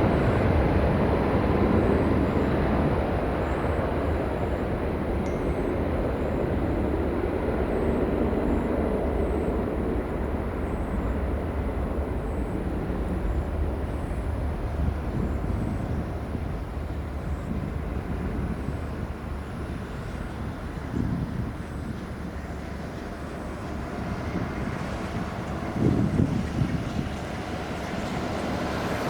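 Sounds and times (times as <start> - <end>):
jet airliner engines rumbling: 0.0 - 29.0.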